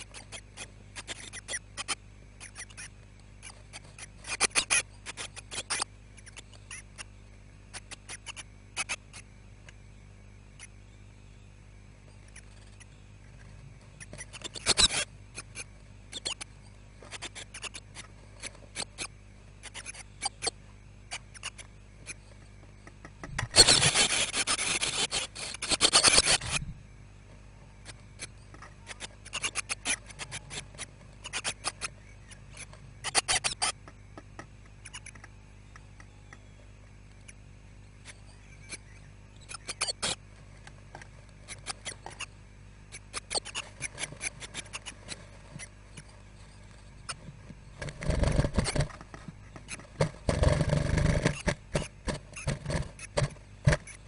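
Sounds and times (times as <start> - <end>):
chicks scratching and rustling: 0.0 - 9.9, 11.7 - 54.0
faint low hum: 0.0 - 54.0.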